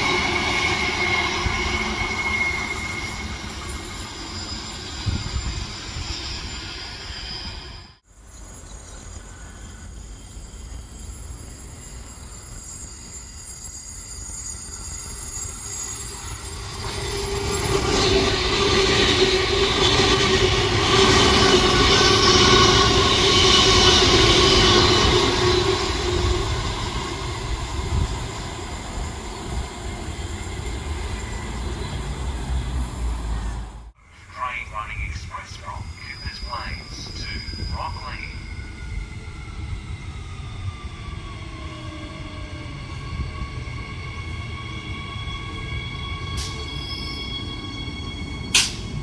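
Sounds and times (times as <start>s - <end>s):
approaching train whine and hiss: 0.0s - 49.0s
electric train rumble: 0.0s - 49.0s.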